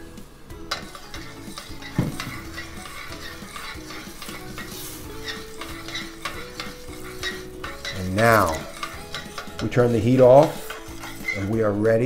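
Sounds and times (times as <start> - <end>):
sauce bubbling and sizzling: 0.0 - 11.4
tongs scraping pan: 0.6 - 12.0.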